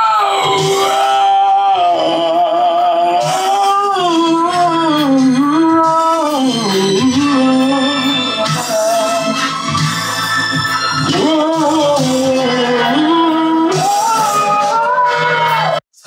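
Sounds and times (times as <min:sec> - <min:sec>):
man singing wordless melody: 0:00.0 - 0:09.8, 0:11.0 - 0:15.1.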